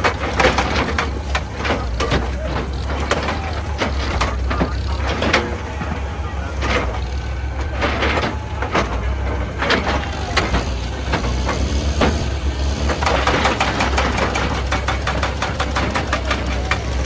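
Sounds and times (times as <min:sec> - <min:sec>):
excavator diesel engine running: 0:00.0 - 0:17.0
metal knocking and scraping on rock: 0:00.0 - 0:17.0.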